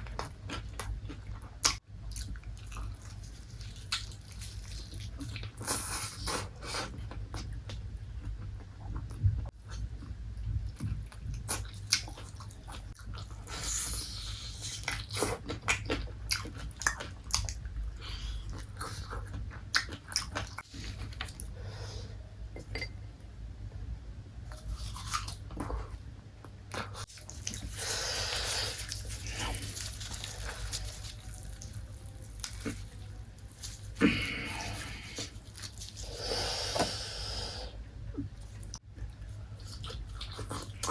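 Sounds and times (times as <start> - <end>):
chewing and crunching fried food: 0.0 - 21.9, 24.4 - 37.3, 38.1 - 40.9
steady low hum: 0.0 - 40.9.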